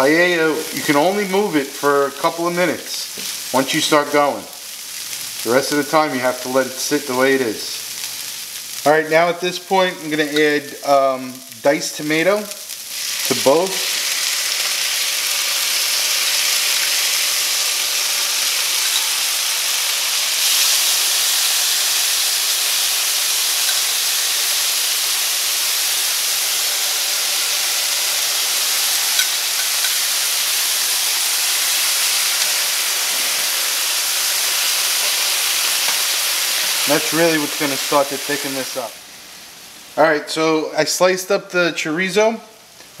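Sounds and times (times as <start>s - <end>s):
vegetables sizzling in skillet: 0.0s - 41.0s.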